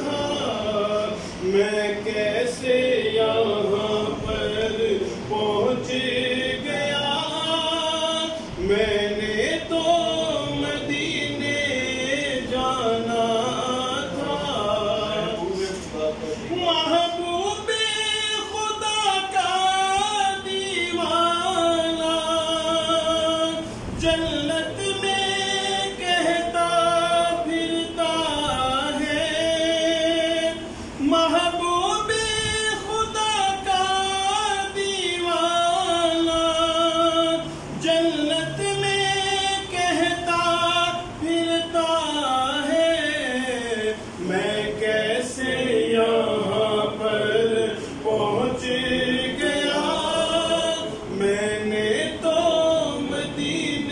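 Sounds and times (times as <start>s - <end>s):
man singing unaccompanied: 0.0s - 53.9s.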